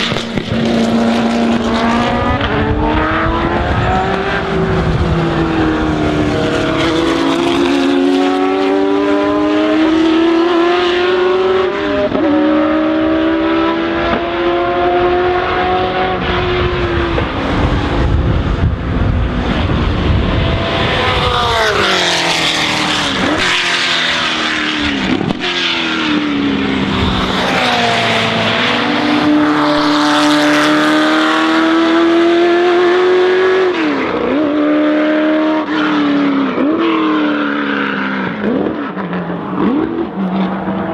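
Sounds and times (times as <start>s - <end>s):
racing engine accelerating: 0.0s - 40.9s.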